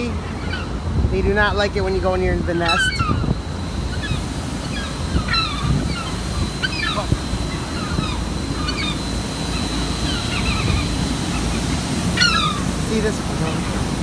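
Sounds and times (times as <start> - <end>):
gulls alarm calls: 0.0 - 14.0
steady low rumble: 0.0 - 14.0.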